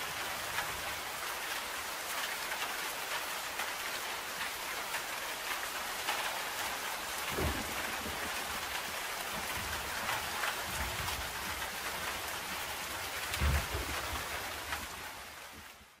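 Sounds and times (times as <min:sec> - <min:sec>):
falling water: 0:00.0 - 0:16.0.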